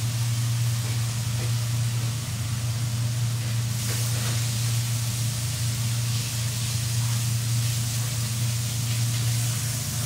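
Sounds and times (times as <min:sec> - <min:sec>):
sauce sizzling in a wok: 0:00.0 - 0:10.0
steady low hum: 0:00.0 - 0:10.0.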